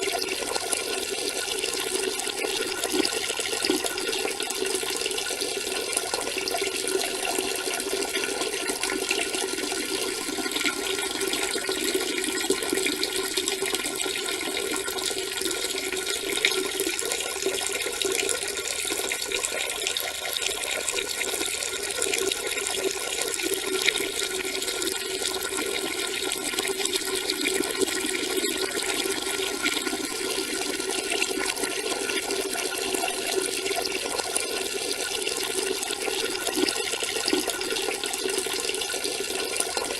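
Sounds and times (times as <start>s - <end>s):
urine splashing into toilet water: 0.0s - 39.9s.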